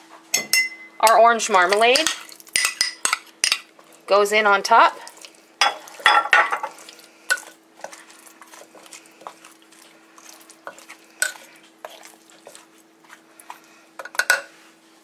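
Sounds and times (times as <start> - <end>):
faint steady hum: 0.0 - 15.0
spoon scraping and clinking pot: 0.4 - 3.8, 5.6 - 14.6.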